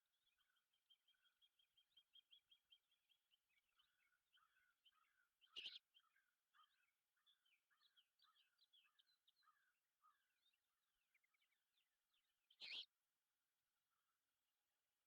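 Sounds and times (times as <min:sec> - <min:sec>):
songbirds chirping: 0:00.0 - 0:13.2.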